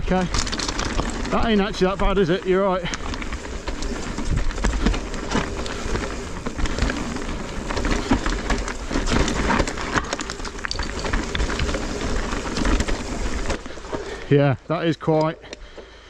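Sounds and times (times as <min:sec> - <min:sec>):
bike clattering and rattling: 0:00.0 - 0:16.0
tyres over stones: 0:00.0 - 0:16.0.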